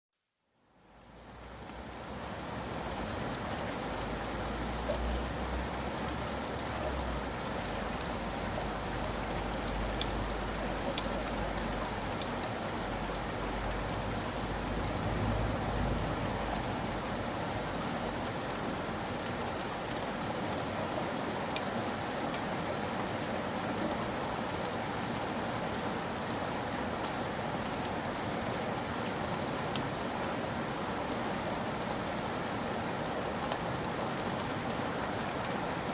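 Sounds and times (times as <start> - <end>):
steady rain falling: 0.2 - 35.9.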